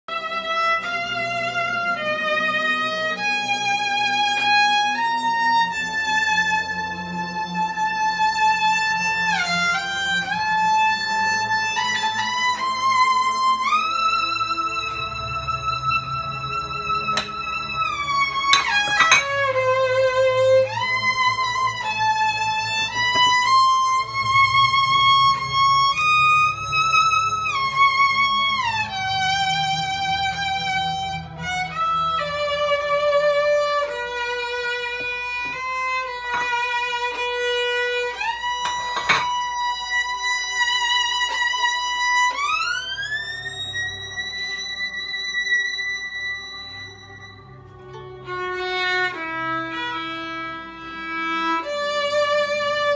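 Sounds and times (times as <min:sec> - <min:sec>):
solo violin slow melody: 0:00.0 - 0:52.9.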